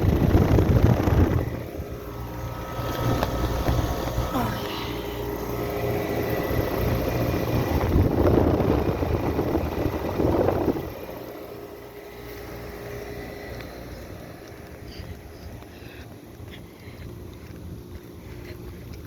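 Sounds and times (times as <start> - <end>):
compressor hum: 0.0 - 19.0
condenser fan blowing air: 0.0 - 19.0.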